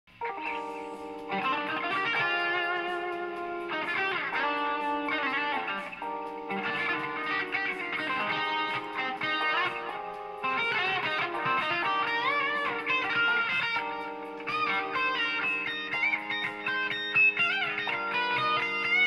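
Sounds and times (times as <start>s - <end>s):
electric guitar chords and notes: 0.1s - 19.0s.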